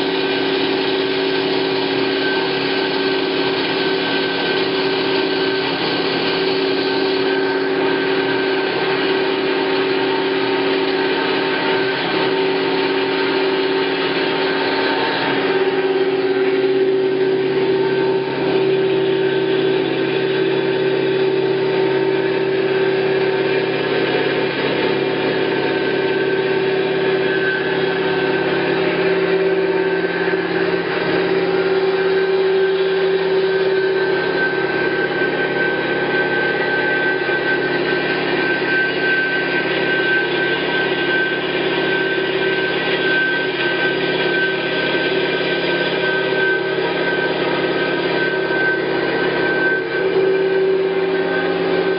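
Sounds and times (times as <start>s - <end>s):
bandsaw machine hum: 0.0s - 51.9s
high-pitched whine: 0.0s - 51.9s.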